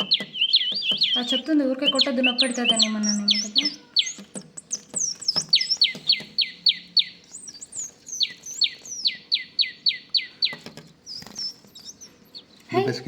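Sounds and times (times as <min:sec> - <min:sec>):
high twittering calls: 0:00.0 - 0:13.0
small birds chirping: 0:00.0 - 0:13.0.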